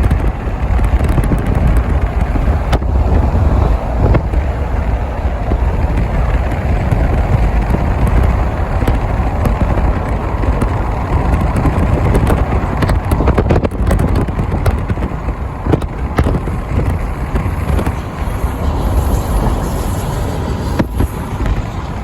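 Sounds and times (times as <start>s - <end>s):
metallic clacks of wheels: 0.0s - 22.0s
train low rumble: 0.0s - 22.0s.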